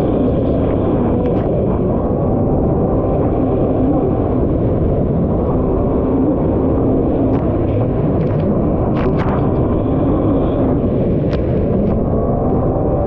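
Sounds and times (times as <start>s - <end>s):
water and wind noise: 0.0s - 13.0s.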